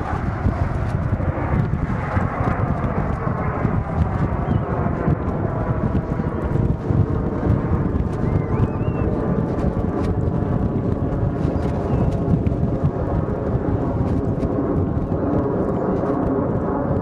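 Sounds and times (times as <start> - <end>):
propeller aircraft flying overhead: 0.0 - 17.0.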